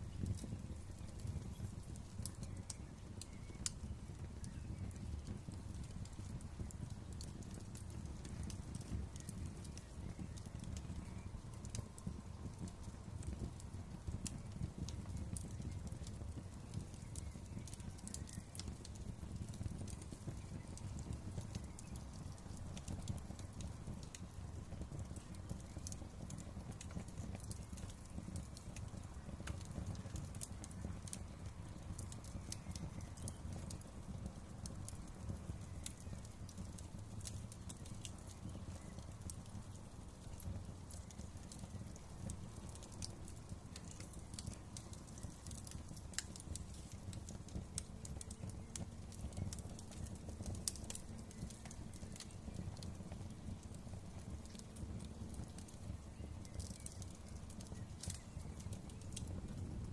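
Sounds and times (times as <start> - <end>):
fire popping and snapping: 0.0 - 59.9
fire rumbling: 0.0 - 59.9.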